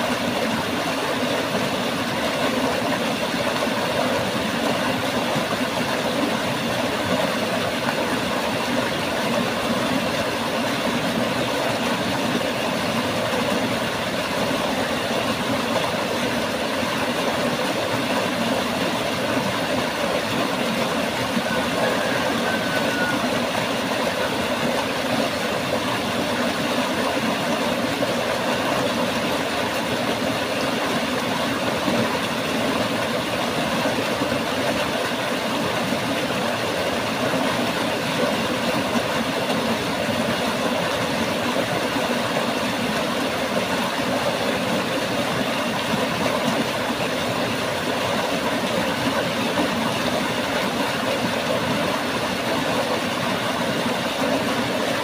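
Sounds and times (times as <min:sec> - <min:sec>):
stream rushing over boulders: 0:00.0 - 0:55.0.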